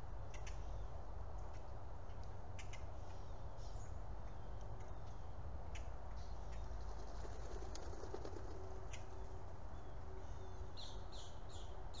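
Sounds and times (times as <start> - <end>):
songbird chirps: 0.0 - 7.0, 8.8 - 12.0.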